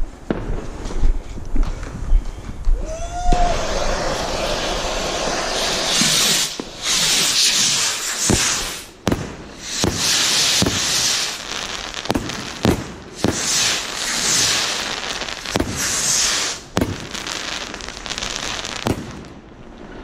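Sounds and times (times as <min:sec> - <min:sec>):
firework bangs: 0:00.0 - 0:20.0
high firework hiss: 0:02.8 - 0:20.0.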